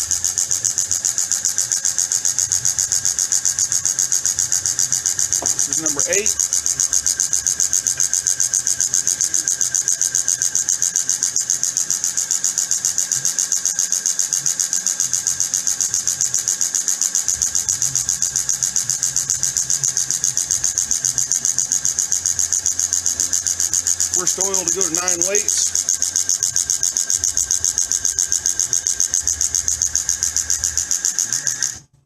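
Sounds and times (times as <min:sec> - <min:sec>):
high-pitched pulsing machine whine: 0:00.0 - 0:32.0.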